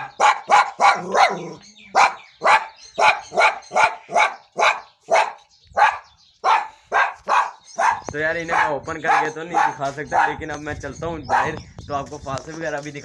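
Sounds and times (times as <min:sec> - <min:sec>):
dogs barking: 0:00.0 - 0:10.6, 0:11.2 - 0:11.6.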